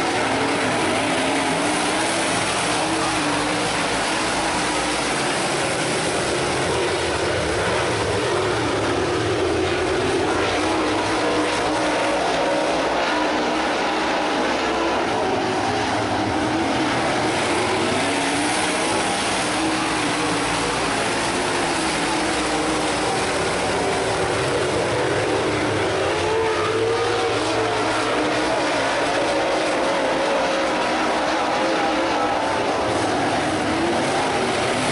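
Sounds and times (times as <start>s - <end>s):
race car engines: 0.0s - 34.9s.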